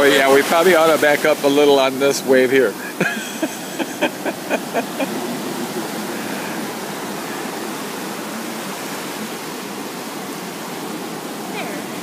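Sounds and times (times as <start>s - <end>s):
surf rushing in: 0.0s - 12.0s.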